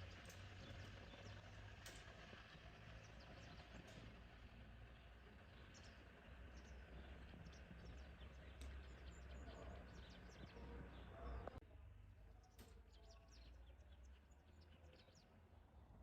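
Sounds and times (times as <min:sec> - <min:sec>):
low outdoor rumble: 0:00.0 - 0:16.0
songbirds chirping: 0:00.0 - 0:16.0.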